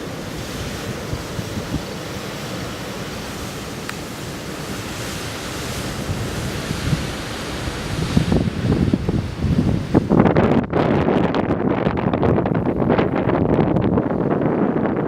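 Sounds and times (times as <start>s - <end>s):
wind buffeting microphone: 0.0s - 15.0s
wind rushing: 0.0s - 15.0s.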